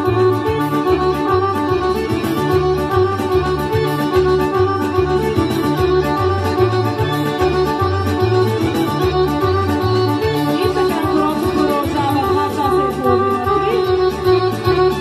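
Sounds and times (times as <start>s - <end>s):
folk dance music: 0.0s - 15.0s.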